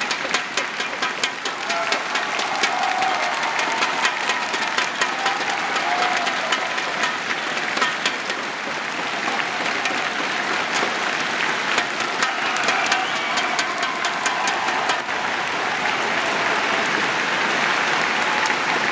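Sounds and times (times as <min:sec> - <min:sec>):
crowd applauding: 0:00.0 - 0:18.9.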